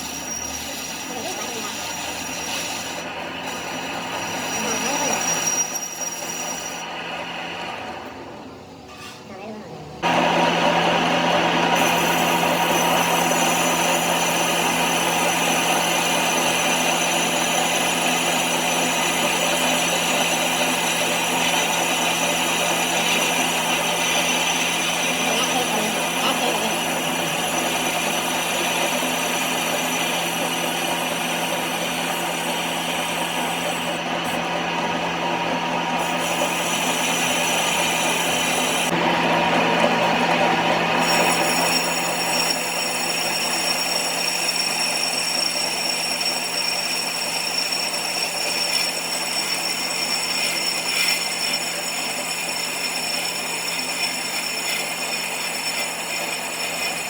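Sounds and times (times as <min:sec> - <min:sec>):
metalworking machine humming and whining: 0:00.0 - 0:57.0.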